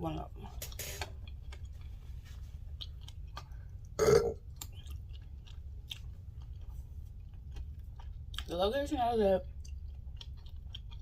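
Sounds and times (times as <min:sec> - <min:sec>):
person chewing with wet smacks: 0:00.1 - 0:11.0.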